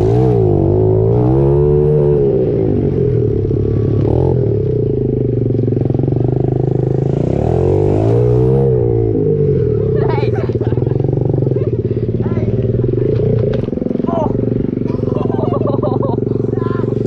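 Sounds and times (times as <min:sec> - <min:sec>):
small motorcycle engine revving: 0:00.0 - 0:17.0.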